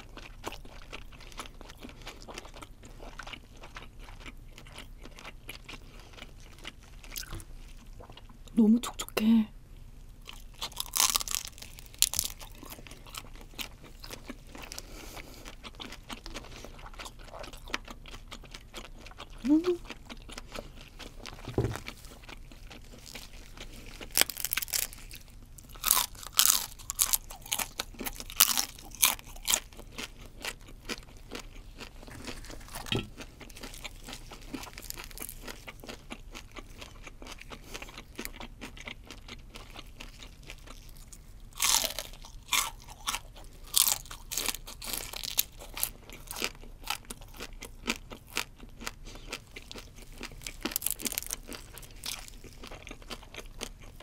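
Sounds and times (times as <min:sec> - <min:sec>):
crunching fried shrimp: 0:00.0 - 0:08.4, 0:10.1 - 0:54.0.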